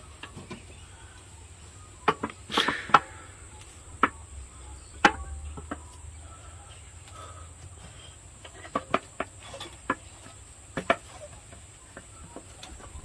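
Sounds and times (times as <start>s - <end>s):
faint high insect drone: 0.0s - 13.0s.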